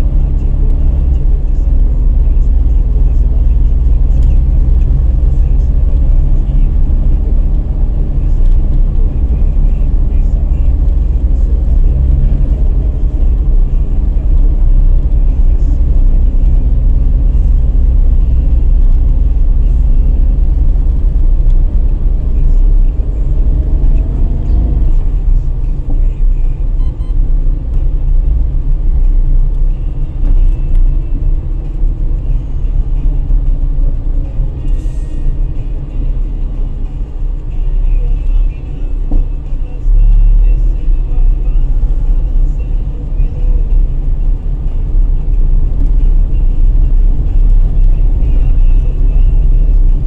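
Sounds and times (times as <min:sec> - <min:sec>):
car engine rumble: 0:00.0 - 0:50.0
tyres on road: 0:00.0 - 0:50.0.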